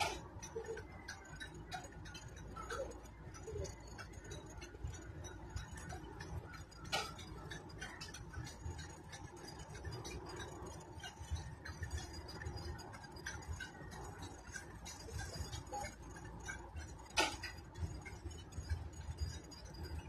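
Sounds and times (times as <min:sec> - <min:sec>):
light clicks and clinks: 0:00.0 - 0:20.0
low steady rumble: 0:00.0 - 0:20.0.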